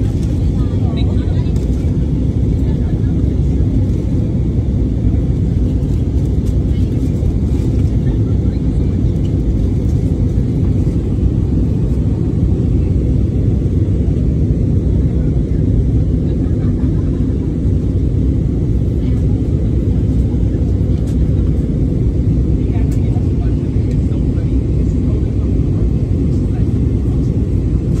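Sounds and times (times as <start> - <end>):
jet cabin engine rumble: 0.0 - 28.0.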